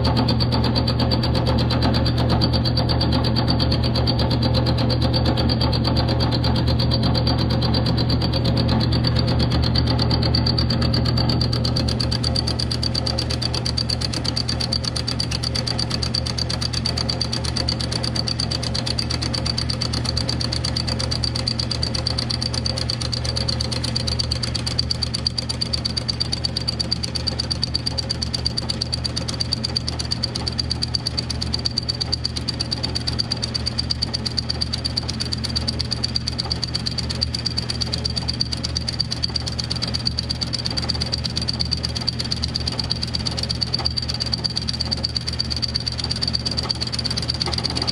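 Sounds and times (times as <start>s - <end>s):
milling machine motor hum and whine: 0.0s - 47.9s
rapid ticking from cutter: 0.0s - 47.9s.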